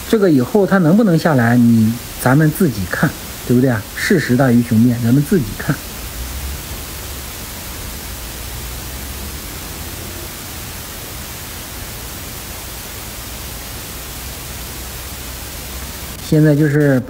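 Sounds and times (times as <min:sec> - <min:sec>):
steady background hiss: 0:00.0 - 0:17.0
low hum: 0:01.5 - 0:16.2.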